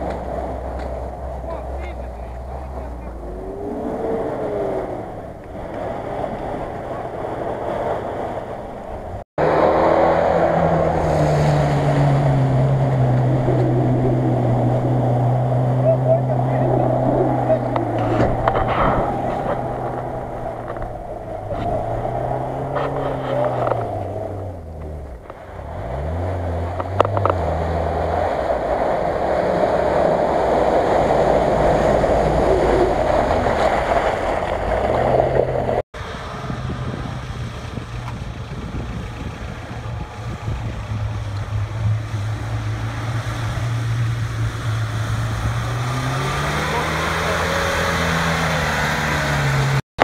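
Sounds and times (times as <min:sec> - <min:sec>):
engine running through shallow water: 0:00.0 - 0:49.8
off-road engine revving: 0:00.0 - 0:50.0.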